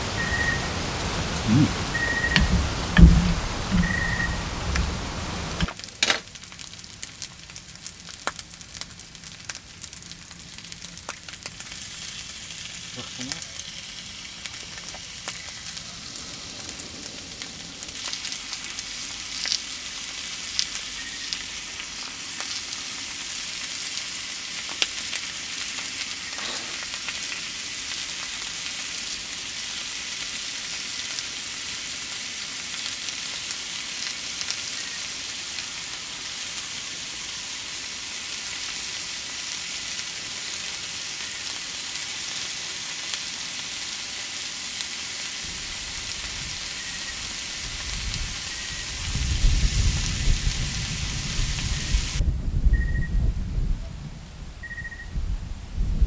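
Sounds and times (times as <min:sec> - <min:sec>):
food sizzling in a pan: 0:00.0 - 0:52.2.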